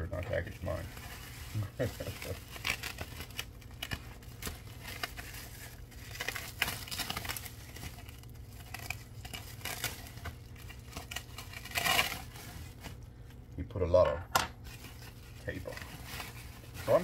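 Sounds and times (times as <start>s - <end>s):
packing tape tearing and crinkling: 0.1s - 13.3s, 14.6s - 17.0s.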